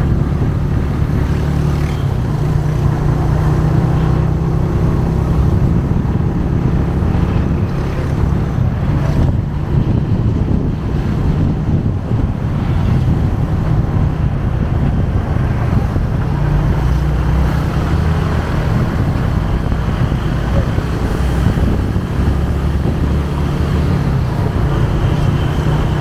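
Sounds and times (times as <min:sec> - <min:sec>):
motorcycle engine rumbling: 0:00.0 - 0:26.0
wind rushing over microphone: 0:00.0 - 0:26.0.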